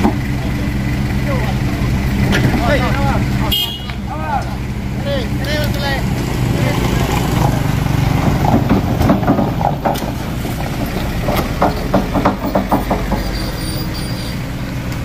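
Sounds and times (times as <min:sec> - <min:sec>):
pickup truck engine climbing: 0:00.0 - 0:15.0.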